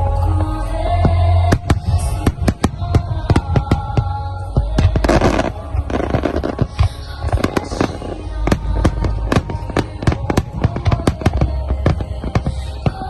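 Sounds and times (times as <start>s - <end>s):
music playing: 0.0s - 13.0s
fireworks cracks and bangs: 0.9s - 13.0s.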